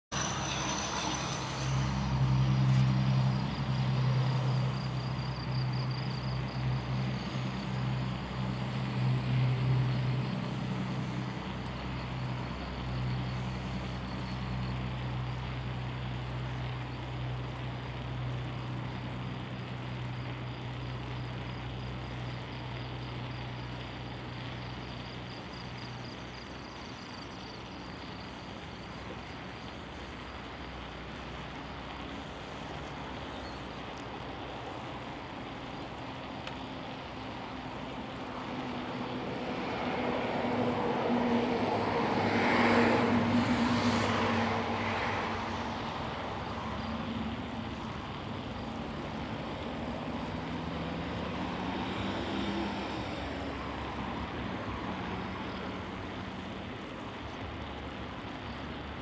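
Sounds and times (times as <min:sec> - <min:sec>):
low engine drone: 0:00.0 - 0:59.0
constant even hiss: 0:00.1 - 0:59.0.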